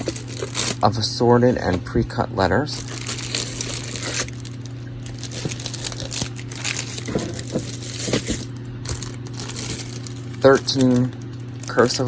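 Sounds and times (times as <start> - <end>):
packaging crinkling and rustling: 0.0 - 12.0
steady low hum: 0.0 - 12.0.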